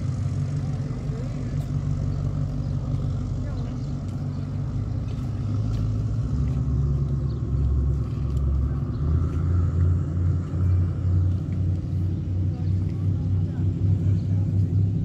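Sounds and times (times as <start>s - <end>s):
motorboat engine rumbling: 0.0s - 15.0s.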